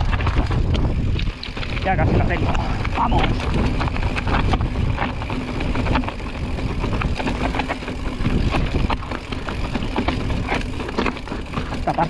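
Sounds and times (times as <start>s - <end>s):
bike tyres and frame clattering on rock: 0.0s - 12.0s
mountain bike rumble on rocky trail: 0.0s - 12.0s.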